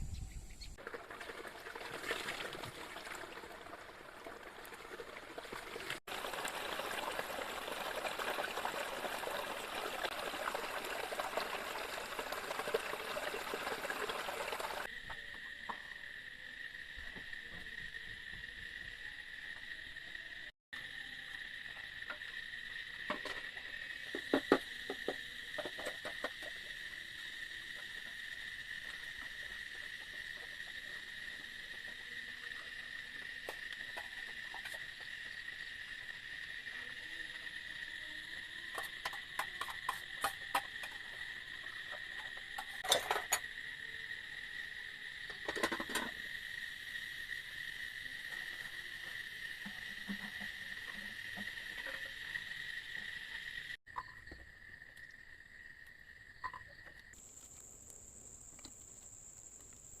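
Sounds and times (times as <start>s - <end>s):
insects chirring: 0.0s - 60.0s
high-pitched insect trill: 6.0s - 60.0s.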